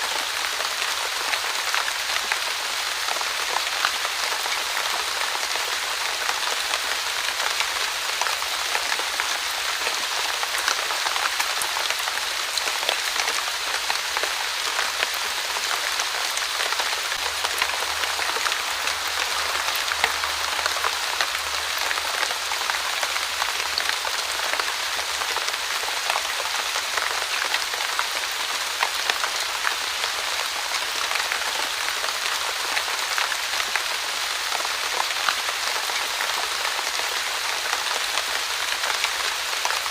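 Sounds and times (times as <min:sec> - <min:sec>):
rain drops ticking: 0:00.1 - 0:39.9.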